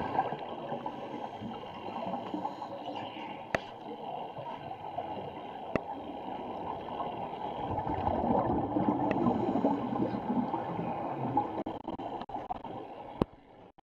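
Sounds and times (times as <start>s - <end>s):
muffled underwater bubbles gurgling: 0.0s - 13.7s.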